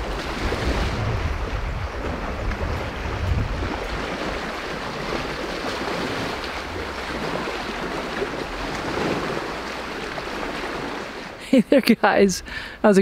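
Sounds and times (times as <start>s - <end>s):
wind rumble on microphone: 0.0s - 11.3s
fast-flowing creek rushing: 0.0s - 11.4s.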